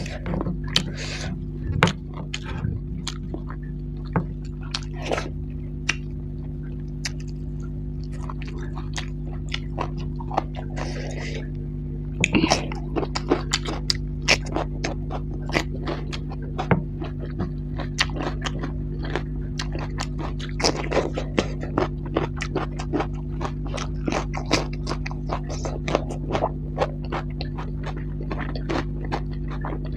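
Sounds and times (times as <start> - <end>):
person chewing cucumber: 0.0 - 29.9
steady low hum: 0.0 - 29.9.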